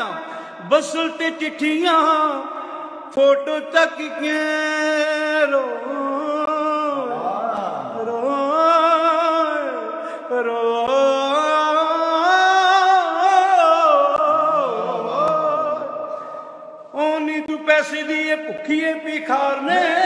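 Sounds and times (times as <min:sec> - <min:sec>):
man singing unaccompanied: 0:00.0 - 0:15.9, 0:16.9 - 0:20.0.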